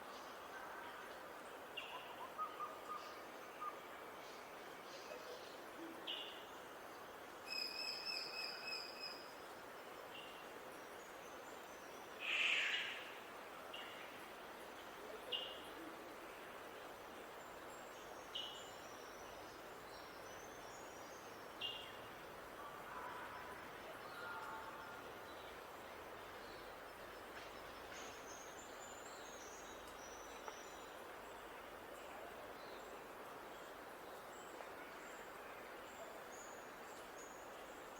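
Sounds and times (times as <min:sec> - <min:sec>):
background hiss: 0:03.0 - 0:37.9.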